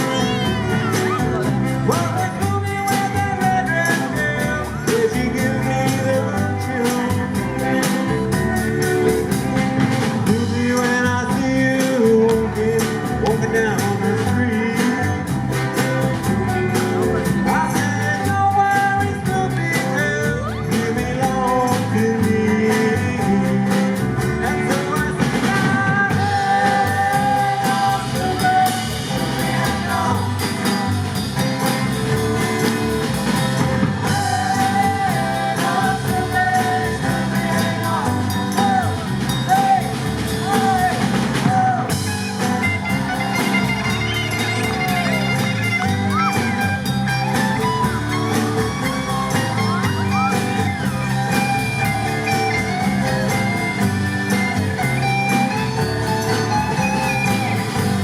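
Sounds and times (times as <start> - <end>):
person singing: 0.0 - 32.7, 33.8 - 58.0
drum kit: 0.0 - 58.0
electric guitar: 0.0 - 58.0.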